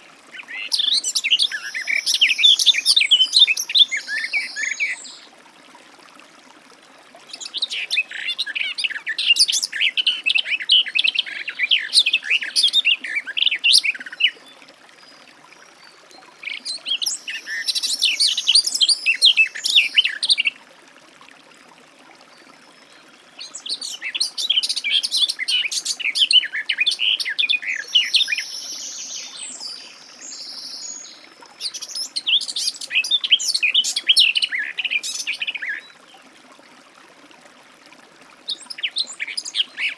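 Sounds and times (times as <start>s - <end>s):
garden warbler singing: 0.0s - 5.3s, 7.3s - 20.5s, 22.4s - 36.0s.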